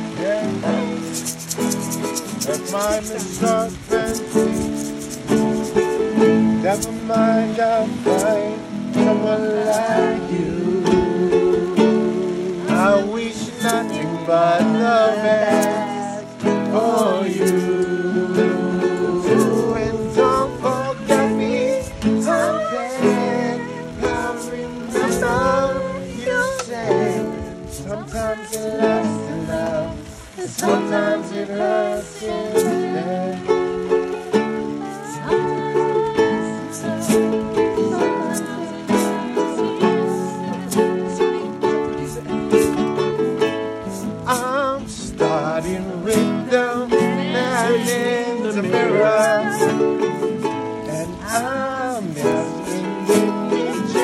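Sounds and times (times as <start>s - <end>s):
man and woman singing: 0.0s - 54.0s
ukulele strumming: 0.0s - 54.0s.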